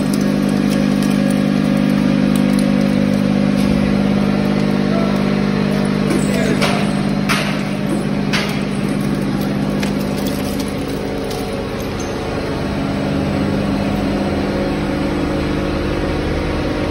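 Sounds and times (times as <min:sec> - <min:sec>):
conveyor machine hum: 0:00.0 - 0:16.9.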